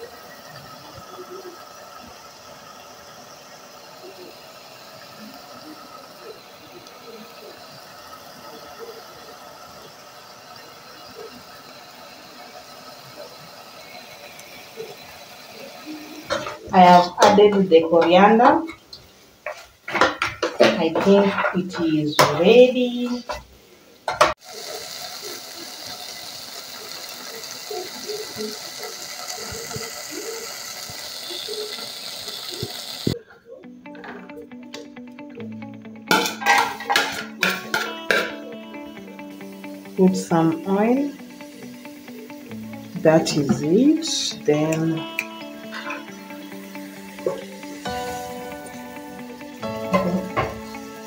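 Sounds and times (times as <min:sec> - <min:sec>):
stew simmering hiss: 0:00.0 - 0:34.6, 0:36.0 - 0:51.0.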